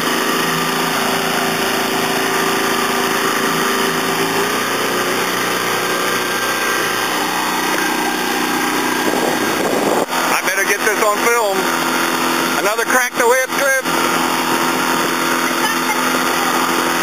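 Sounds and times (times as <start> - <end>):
outboard motor running: 0.0 - 17.0
water rushing along hull: 0.0 - 17.0.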